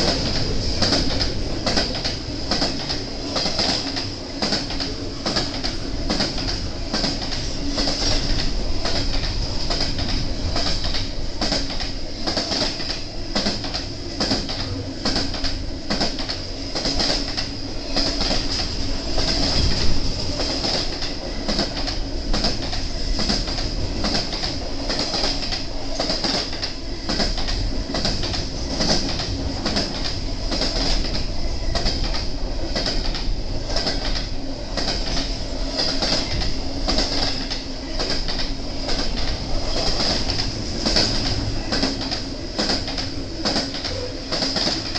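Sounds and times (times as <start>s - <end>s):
freight train rumble: 0.0s - 44.9s
train wheels clicking over rail joints: 0.0s - 44.9s.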